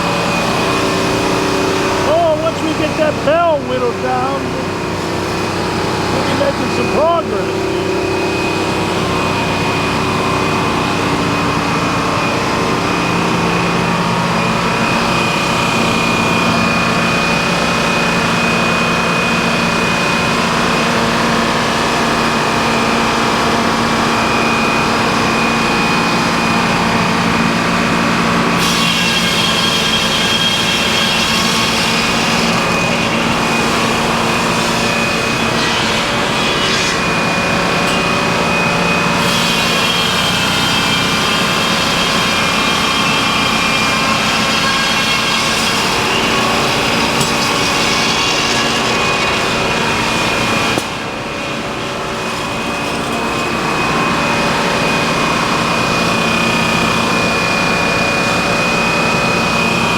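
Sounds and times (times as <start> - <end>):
circular saw cutting log: 0.0 - 59.9.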